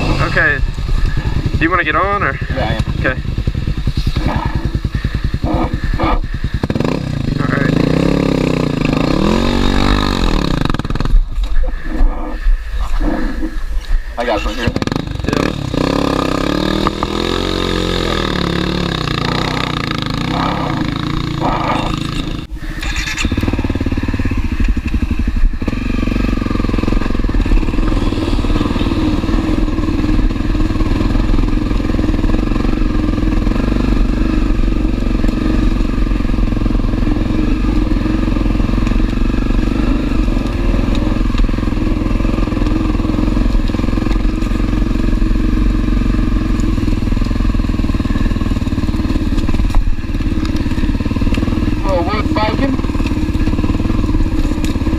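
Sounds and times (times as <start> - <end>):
dirt bike engine revving: 0.0 - 11.9, 13.2 - 54.9.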